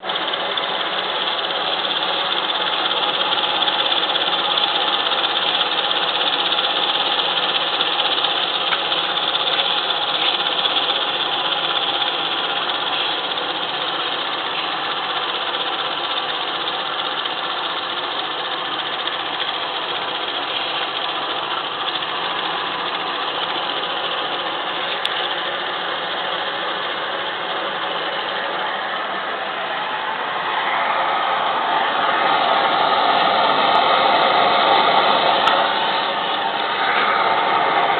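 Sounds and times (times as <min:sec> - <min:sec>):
steam engine hissing: 0:00.0 - 0:37.9.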